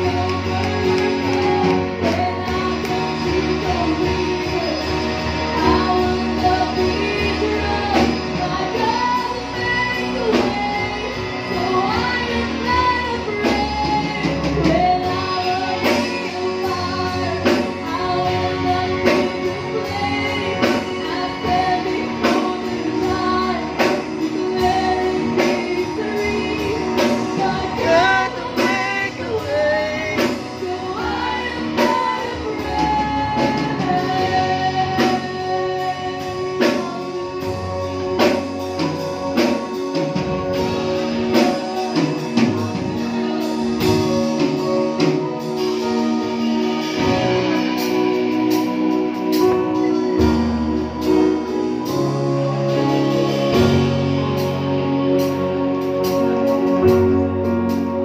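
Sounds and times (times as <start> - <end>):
woman singing into a microphone: 0.0 - 54.4
electric guitar: 0.0 - 58.0
keyboard: 0.0 - 58.0.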